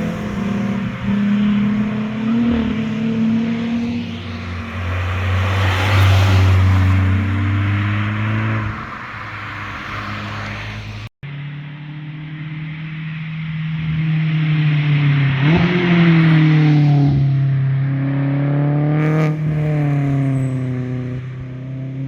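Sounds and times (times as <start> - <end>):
car engine revving past: 0.0 - 12.8, 13.4 - 22.0
car exhaust drone passing: 0.0 - 22.0.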